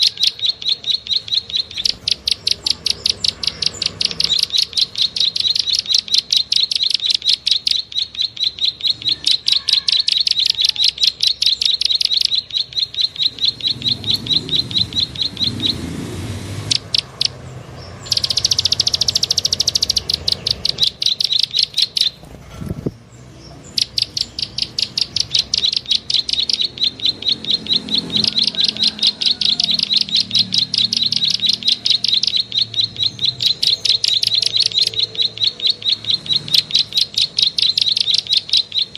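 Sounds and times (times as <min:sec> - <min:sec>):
buzzy bird trill: 0:00.0 - 0:38.9
small bird chirping rapidly: 0:00.0 - 0:38.9.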